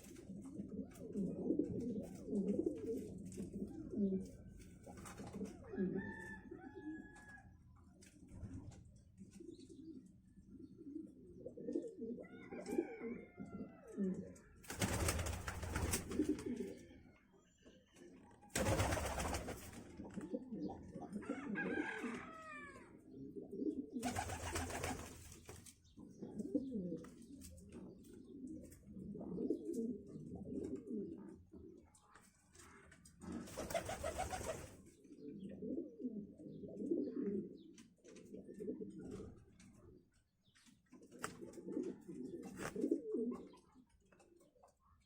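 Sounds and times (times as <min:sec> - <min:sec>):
pigeons cooing: 0:00.0 - 0:07.3, 0:09.2 - 0:17.0, 0:18.5 - 0:31.8, 0:33.2 - 0:40.0, 0:40.9 - 0:43.8.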